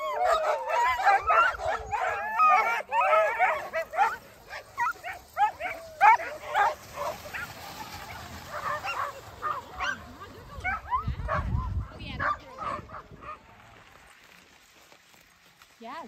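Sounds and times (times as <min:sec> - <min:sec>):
sled dogs yipping and barking: 0:00.0 - 0:15.5.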